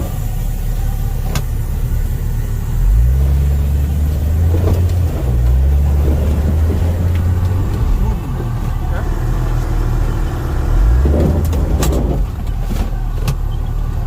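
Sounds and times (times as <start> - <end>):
car engine pulling off-road: 0.0 - 14.0.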